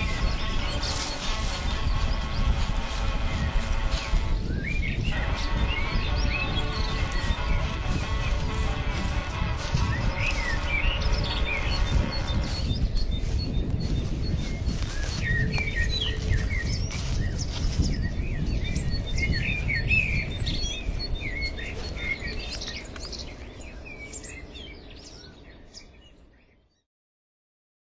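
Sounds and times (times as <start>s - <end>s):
low rumble: 0.0s - 22.6s
songbirds singing and chirping: 0.0s - 26.8s.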